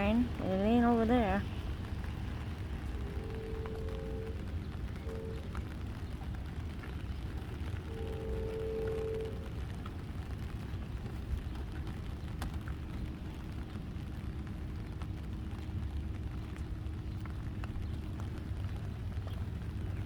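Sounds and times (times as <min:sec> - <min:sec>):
distant train rumbling: 0:00.0 - 0:20.0
raindrops ticking: 0:00.0 - 0:20.0.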